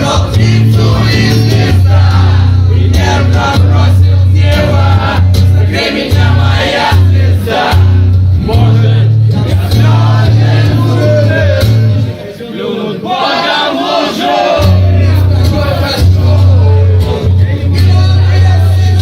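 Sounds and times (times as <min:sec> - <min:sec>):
pulsing bass line: 0:00.0 - 0:12.1, 0:14.6 - 0:19.0
live band music: 0:00.0 - 0:12.2, 0:14.3 - 0:19.0
people singing: 0:00.0 - 0:19.0.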